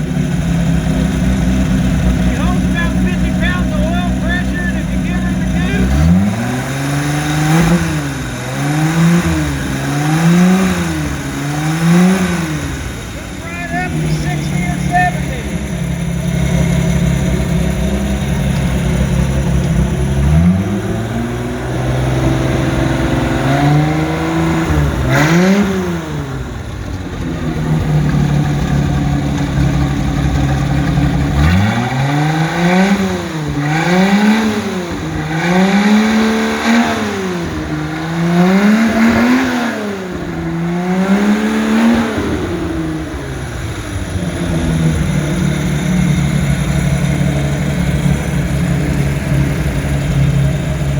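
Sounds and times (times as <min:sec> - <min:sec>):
boat engine idling and revving: 0:00.0 - 0:50.9.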